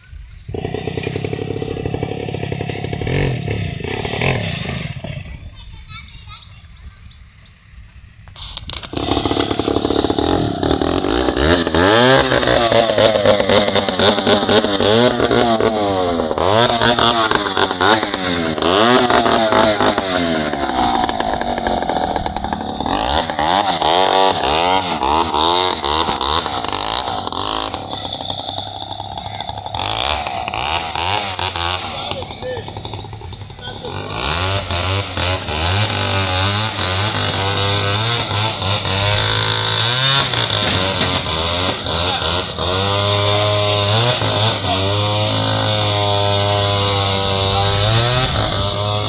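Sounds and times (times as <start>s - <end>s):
chainsaw revving: 0.5s - 5.5s, 8.3s - 49.0s.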